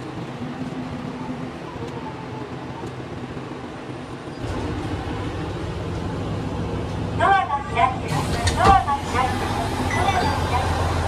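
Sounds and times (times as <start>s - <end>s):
train running low rumble: 0.0s - 11.0s.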